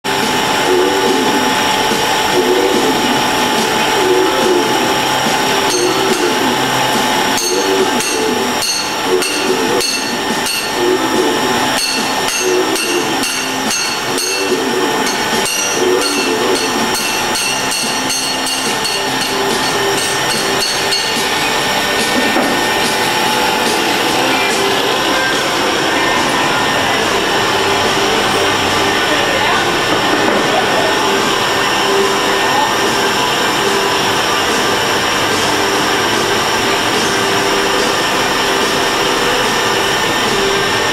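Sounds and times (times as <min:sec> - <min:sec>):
machine running: 0:00.0 - 0:40.9.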